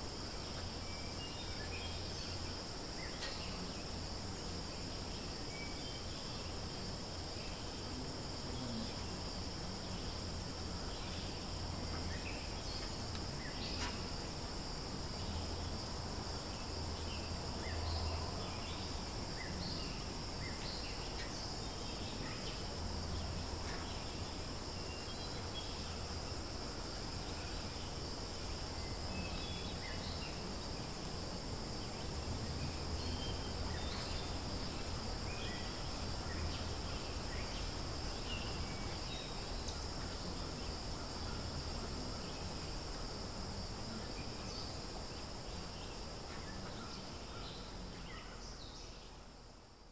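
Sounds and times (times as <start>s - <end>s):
insect chorus drone: 0.0s - 49.9s.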